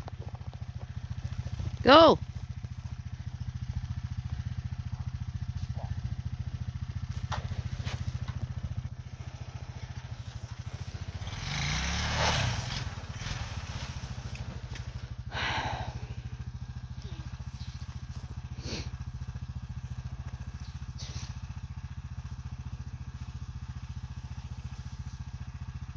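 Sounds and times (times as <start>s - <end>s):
atv engine running and revving: 0.0s - 25.9s.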